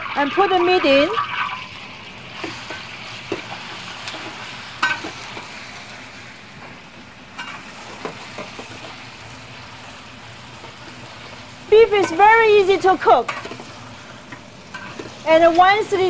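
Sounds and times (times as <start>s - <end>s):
beef sizzling in a wok: 0.0s - 16.0s.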